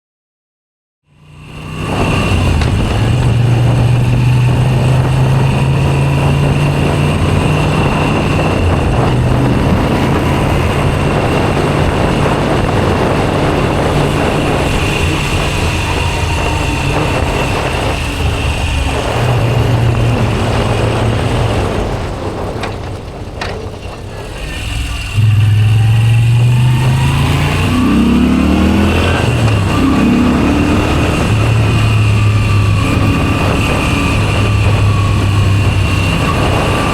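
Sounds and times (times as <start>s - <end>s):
motorcycle engine revving: 1.1s - 36.9s.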